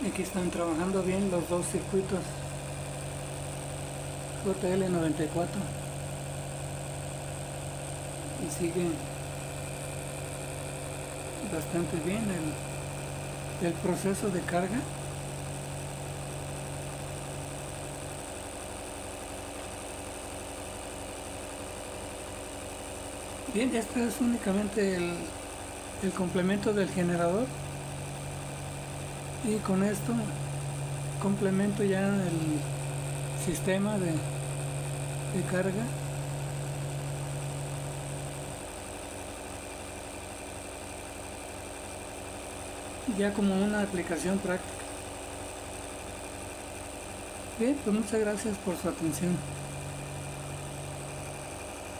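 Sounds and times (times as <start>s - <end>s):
lower hum: 0.0s - 51.9s
motor humming with high whine: 0.0s - 51.9s.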